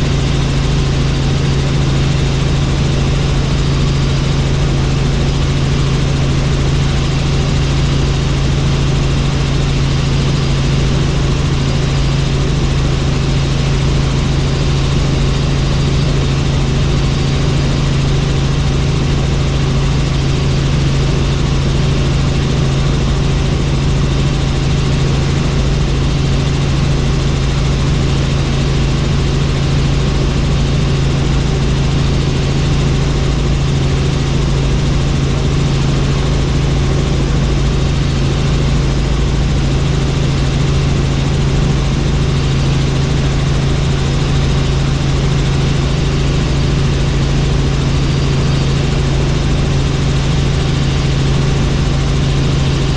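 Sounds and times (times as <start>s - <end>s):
helicopter rotor and turbine drone: 0.0s - 52.9s.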